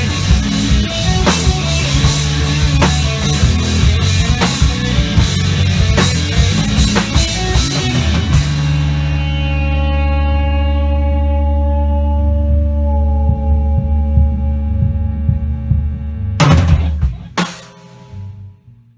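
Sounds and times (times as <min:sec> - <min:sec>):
drum kit: 0:00.0 - 0:10.8, 0:12.6 - 0:18.8
distorted electric guitars: 0:00.0 - 0:18.6.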